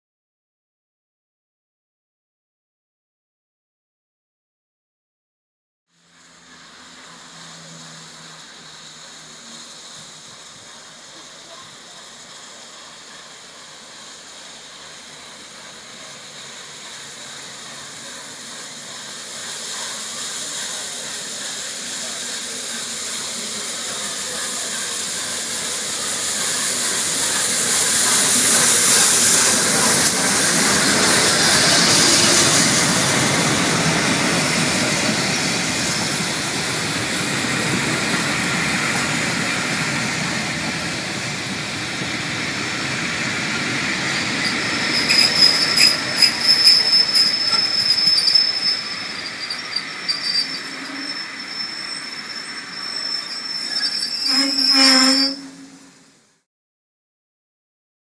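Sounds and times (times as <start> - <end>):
train coaches rumbling by: 6.0 - 56.0
steam locomotive hissing: 6.0 - 56.1.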